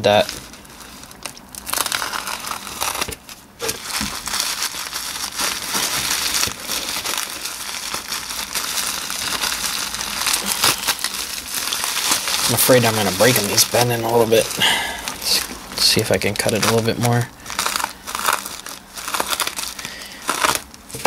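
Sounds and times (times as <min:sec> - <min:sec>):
bubble wrap crinkling and crackling: 0:00.0 - 0:21.0.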